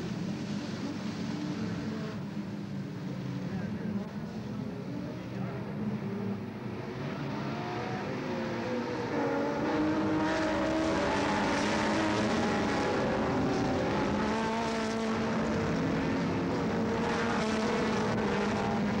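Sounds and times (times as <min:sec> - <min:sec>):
racing cars passing at full throttle: 0:00.0 - 0:19.0.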